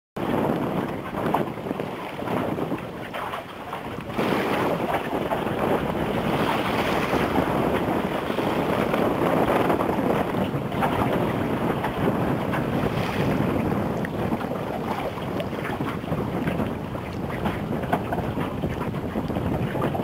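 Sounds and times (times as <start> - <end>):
water washing around boat: 0.2 - 20.0
wind buffeting microphone: 0.2 - 20.0.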